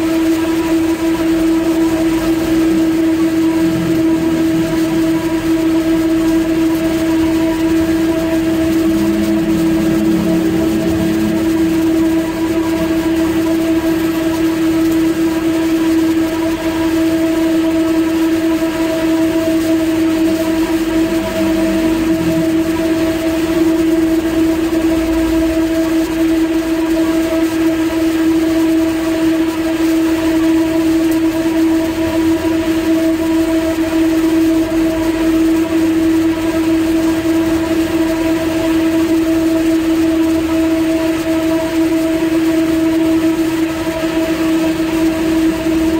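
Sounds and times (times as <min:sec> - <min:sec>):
electric motor hum: 0:00.0 - 0:45.9.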